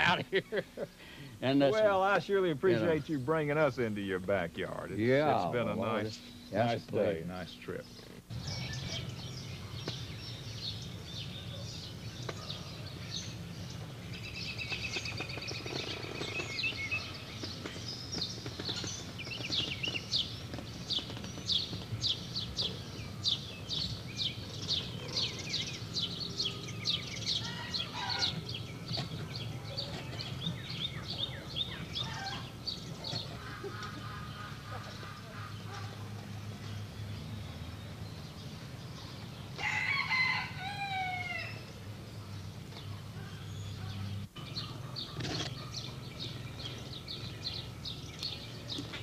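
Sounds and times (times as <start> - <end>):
steady low hum: 0.0 - 39.6
birds chirping: 0.0 - 49.0.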